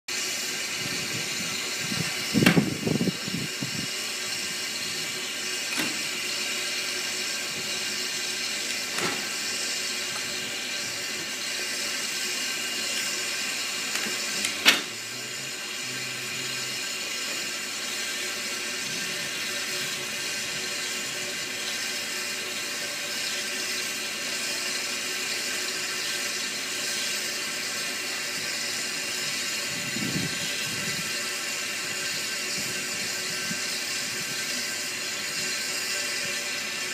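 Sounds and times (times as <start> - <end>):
steam hissing: 0.1 - 36.9.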